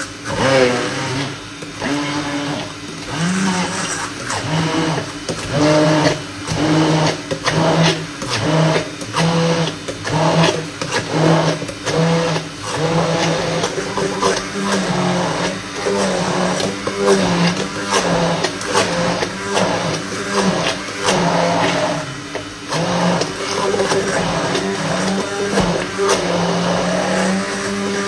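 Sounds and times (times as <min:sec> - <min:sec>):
immersion blender motor: 0:00.0 - 0:28.0.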